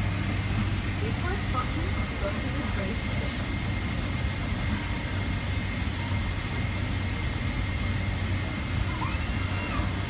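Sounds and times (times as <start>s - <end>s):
airliner cabin rumble and hiss: 0.0s - 10.0s.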